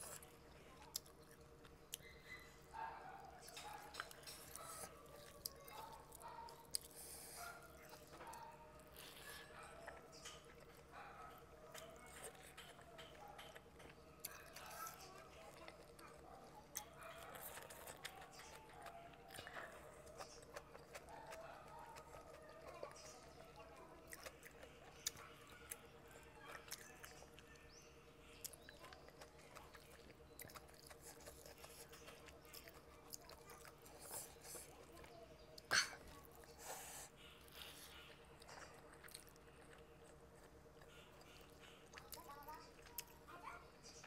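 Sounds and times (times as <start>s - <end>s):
chewing and wet mouth sounds: 0.0s - 44.0s
faint steady hum: 0.0s - 44.0s.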